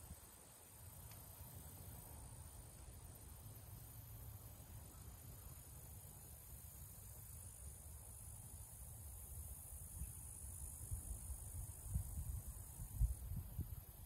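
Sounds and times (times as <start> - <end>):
high insect hum: 0.0 - 14.0.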